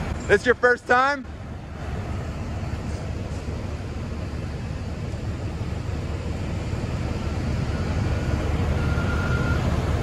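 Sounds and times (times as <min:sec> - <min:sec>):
wheel loader diesel engine rumble: 0:00.0 - 0:10.0
faint steady whine: 0:00.1 - 0:10.0.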